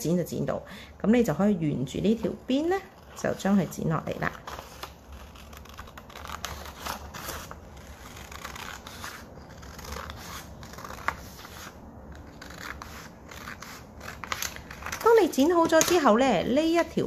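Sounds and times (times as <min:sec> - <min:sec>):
scissors snipping paper: 0:02.2 - 0:16.2.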